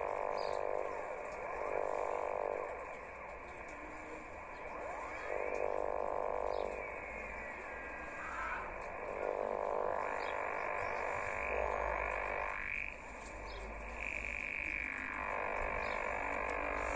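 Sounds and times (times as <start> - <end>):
radio interference hiss and buzz: 0.0 - 16.9.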